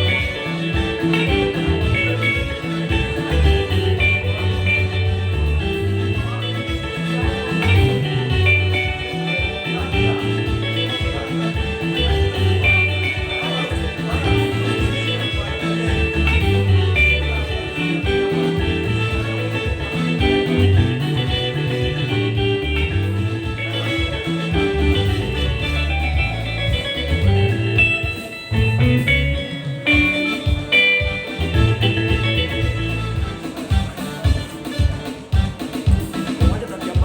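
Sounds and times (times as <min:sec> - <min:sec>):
bass line: 0:00.0 - 0:37.0
plucked electric guitar: 0:00.0 - 0:37.0.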